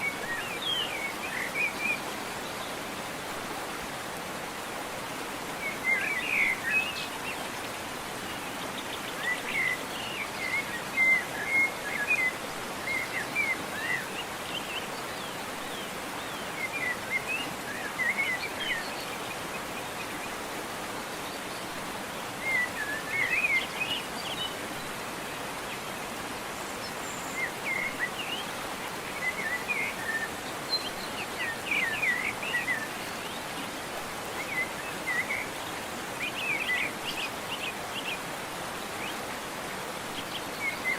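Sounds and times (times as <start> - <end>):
small birds chirping: 0.0 - 3.3, 5.1 - 40.9
waterfall rushing: 0.0 - 40.9.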